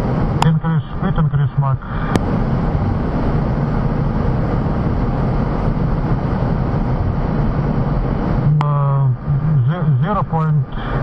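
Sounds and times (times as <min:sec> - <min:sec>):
jet engines and airflow rushing: 0:00.0 - 0:11.0.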